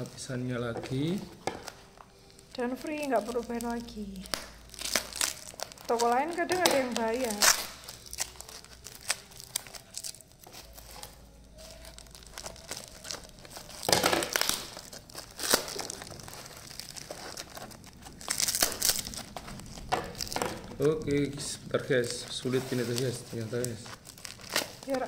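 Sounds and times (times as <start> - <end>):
bubble wrap crinkling and tearing: 0.0 - 25.0.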